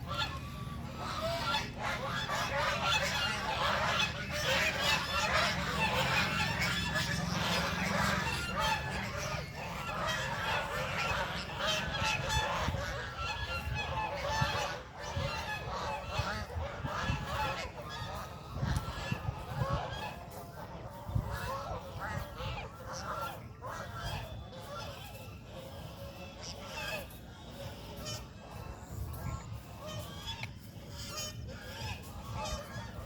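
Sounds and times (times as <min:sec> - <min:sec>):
flock of birds calling: 0:00.0 - 0:33.0
steady low rumble: 0:00.0 - 0:33.0.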